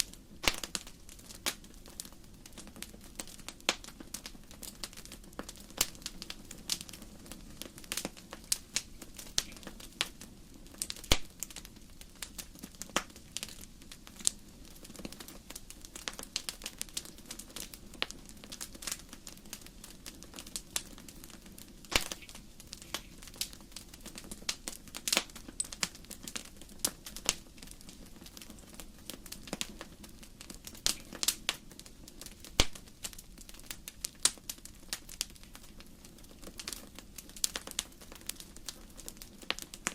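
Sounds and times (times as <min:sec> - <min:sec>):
firewood crackling in fireplace: 0:00.0 - 0:39.9.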